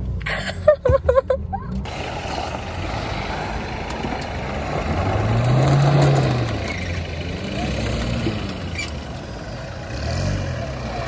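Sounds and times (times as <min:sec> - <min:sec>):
road and tyre noise: 0:00.0 - 0:11.0
diesel engine running: 0:01.7 - 0:11.0.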